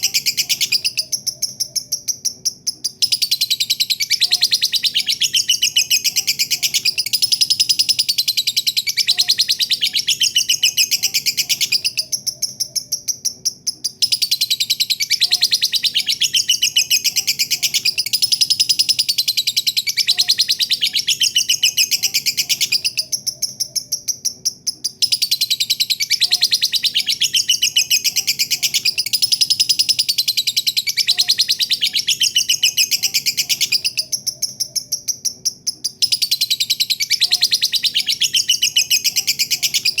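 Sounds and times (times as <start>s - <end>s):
lovebird shrill chirps: 0.0s - 40.0s.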